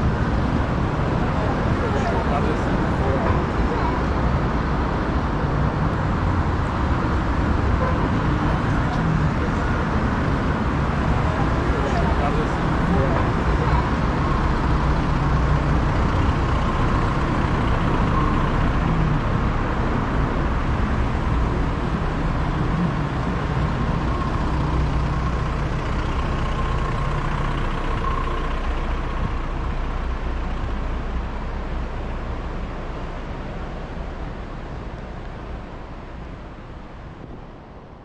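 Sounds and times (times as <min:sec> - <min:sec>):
street traffic rumble: 0:00.0 - 0:38.0.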